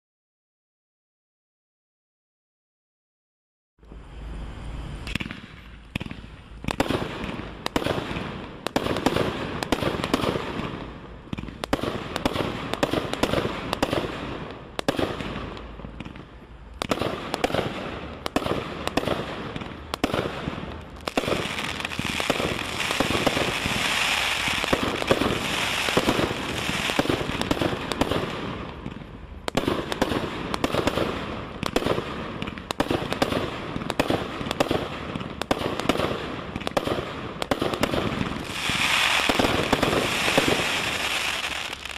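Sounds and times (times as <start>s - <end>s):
fireworks shots and bursts: 5.0s - 41.9s.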